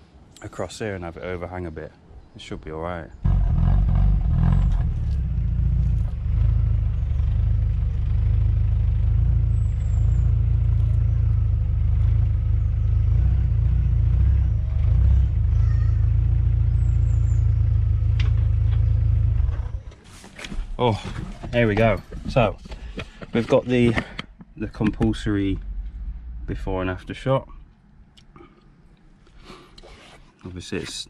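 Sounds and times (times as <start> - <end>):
car engine rumbling: 2.9 - 29.4.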